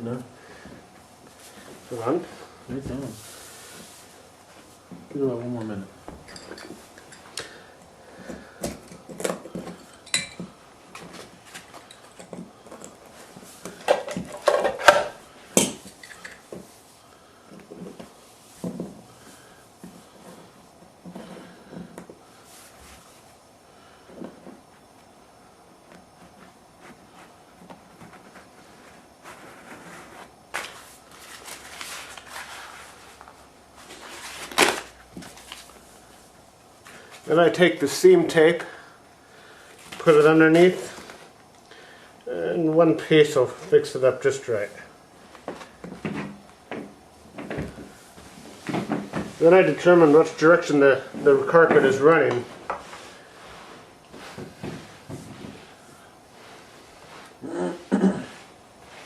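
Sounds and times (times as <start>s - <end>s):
carpet rustling and scraping: 0.1s - 7.4s, 10.4s - 38.1s, 43.5s - 59.0s.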